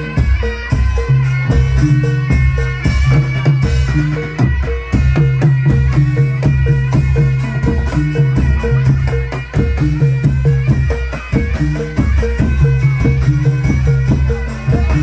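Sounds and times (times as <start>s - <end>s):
higher looping melodic notes: 0.0s - 15.0s
repeating low melodic pattern: 0.0s - 15.0s.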